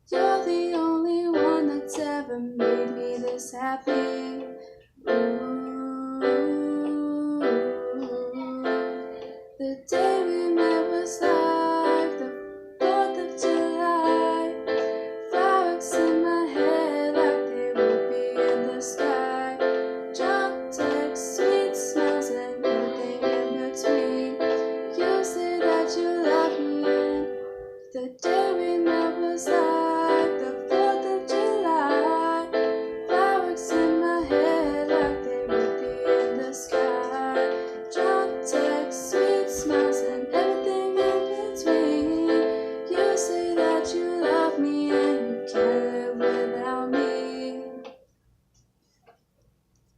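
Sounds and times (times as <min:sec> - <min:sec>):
piano chords: 0:00.0 - 0:48.0.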